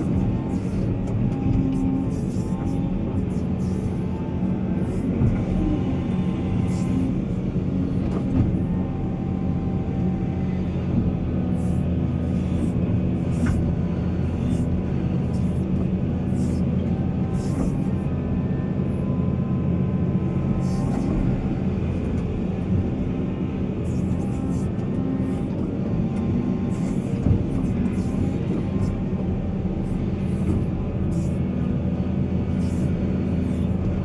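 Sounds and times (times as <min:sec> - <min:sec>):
diesel machinery droning: 0:00.0 - 0:34.0.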